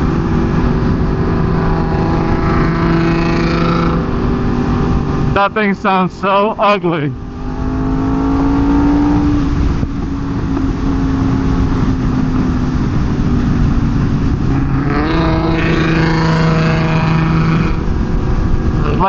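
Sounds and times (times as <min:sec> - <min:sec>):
loud engine exhaust accelerating: 0:00.0 - 0:19.0.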